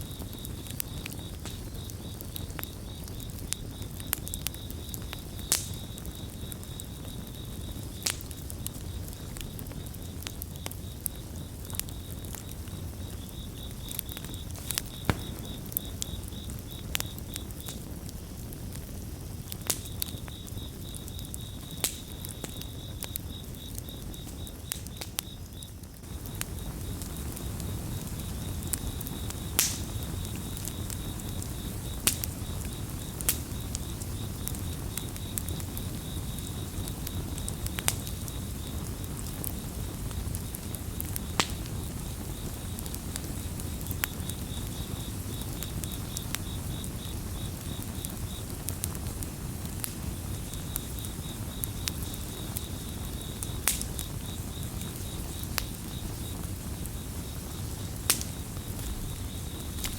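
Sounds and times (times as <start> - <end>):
campfire crackling and popping: 0.0 - 59.9
cricket chirping trill: 0.0 - 59.9
rush of flame: 0.1 - 25.2, 25.8 - 59.9.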